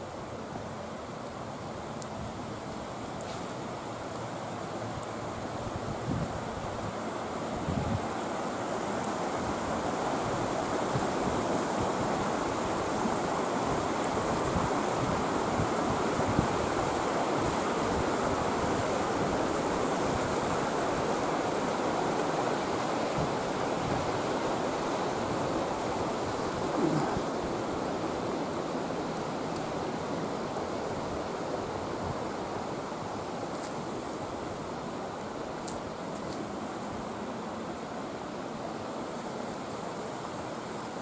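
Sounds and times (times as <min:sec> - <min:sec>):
stream rushing: 0:00.0 - 0:41.0.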